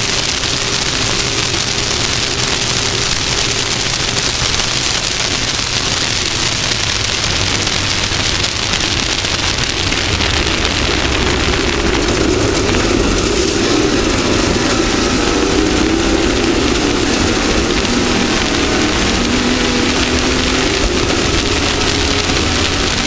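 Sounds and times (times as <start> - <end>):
race vehicle engine: 0.0 - 23.0
rush of wind and dirt: 0.0 - 23.0.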